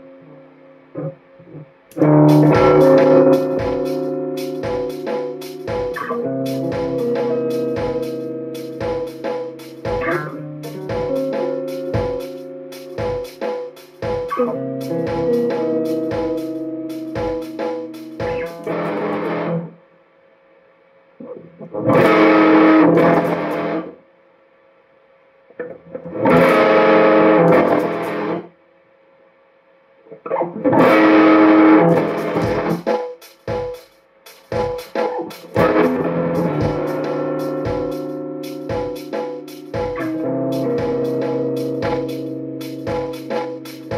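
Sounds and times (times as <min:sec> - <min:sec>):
electric guitar chords: 0:00.0 - 0:19.8, 0:21.2 - 0:24.0, 0:25.6 - 0:28.5, 0:30.3 - 0:33.8, 0:34.6 - 0:43.9.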